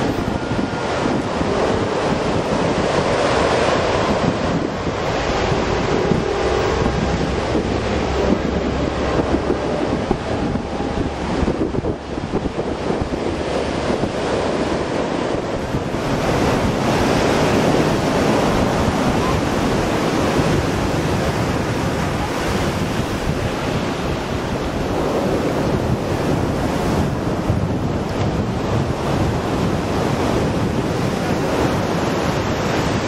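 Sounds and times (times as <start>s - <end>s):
ocean surf breaking on beach: 0.0s - 33.0s
wind buffeting microphone: 0.0s - 33.0s.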